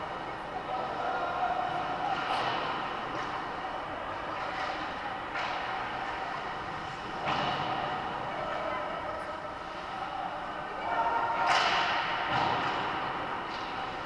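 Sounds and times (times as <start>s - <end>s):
reverberant arena hum: 0.0s - 14.0s.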